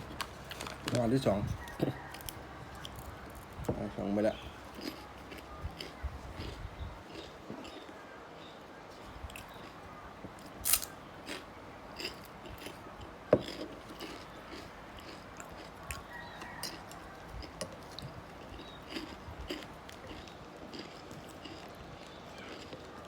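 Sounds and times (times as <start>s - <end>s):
person chewing and crunching: 0.0s - 8.0s, 9.2s - 23.0s.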